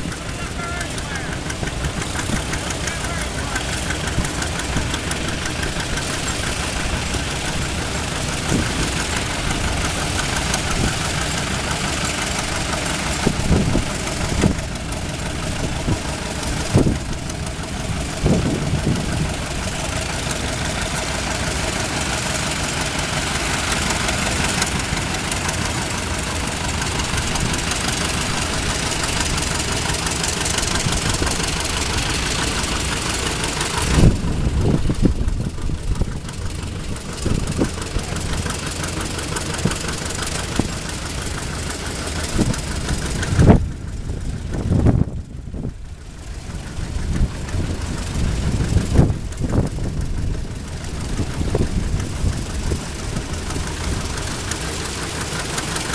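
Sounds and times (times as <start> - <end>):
tractor engines chugging: 0.0 - 55.9.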